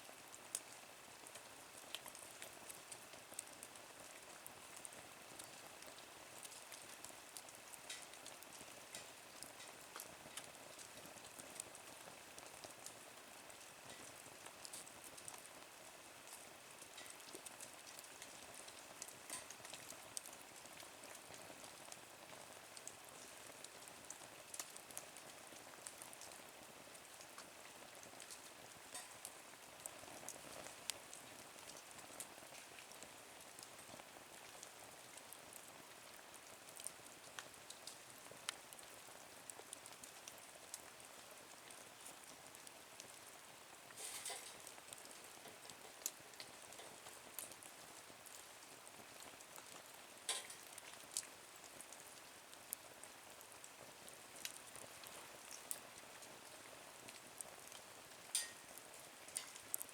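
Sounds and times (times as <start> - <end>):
small wood fire crackling: 0.0 - 59.9.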